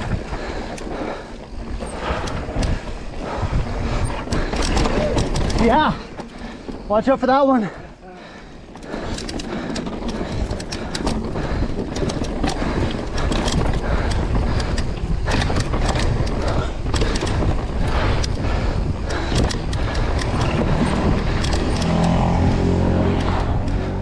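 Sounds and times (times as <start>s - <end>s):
bike rattling over bumps: 0.0s - 24.0s
tyres on wooden boardwalk: 0.0s - 24.0s
wind and tyres rumbling: 0.0s - 24.0s.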